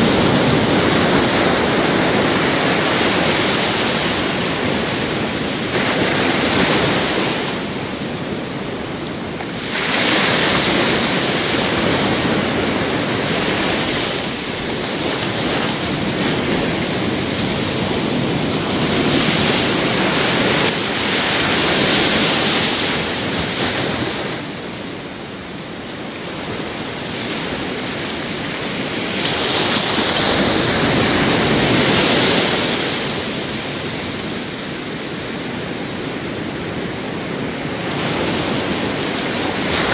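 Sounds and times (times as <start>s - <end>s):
small waves breaking on shore: 0.0s - 39.9s.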